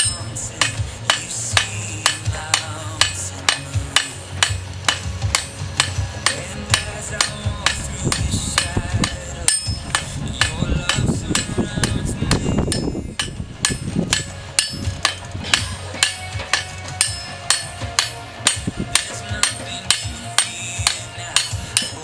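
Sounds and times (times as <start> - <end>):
hammer striking iron on anvil: 0.0 - 22.0.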